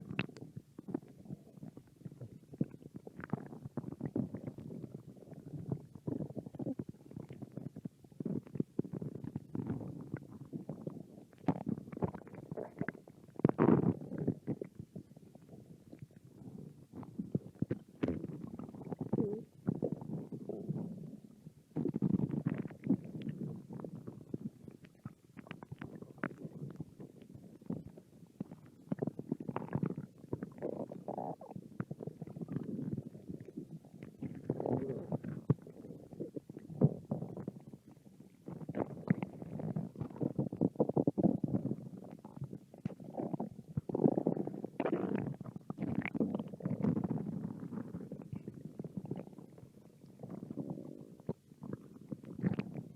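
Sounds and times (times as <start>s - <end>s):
stomach growling: 0.0s - 52.9s.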